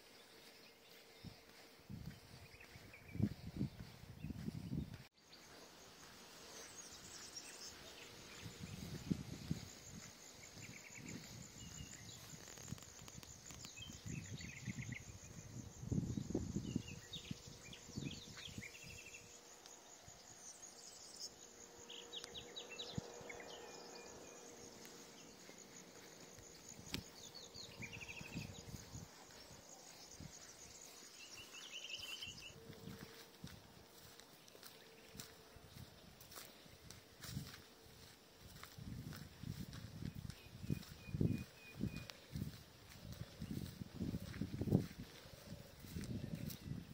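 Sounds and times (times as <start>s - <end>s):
birds chirping: 0.0s - 46.9s
crickets trilling: 0.0s - 46.9s.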